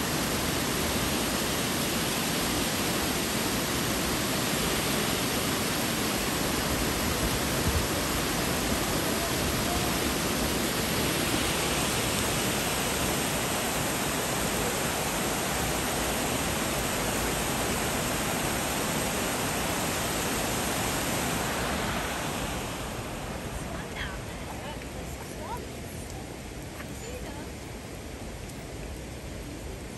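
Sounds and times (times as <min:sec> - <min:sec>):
water rushing over weir: 0:00.0 - 0:29.9.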